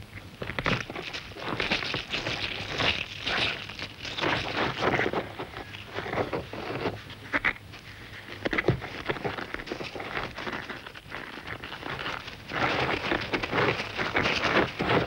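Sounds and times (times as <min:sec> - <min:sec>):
soil and grit crackling: 0:00.0 - 0:15.0.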